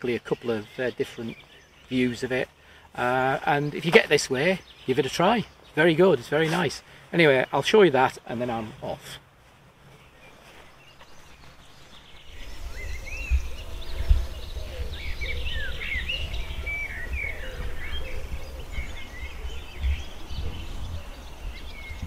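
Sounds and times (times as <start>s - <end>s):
birds singing and chirping: 0.0s - 9.1s, 9.8s - 22.0s.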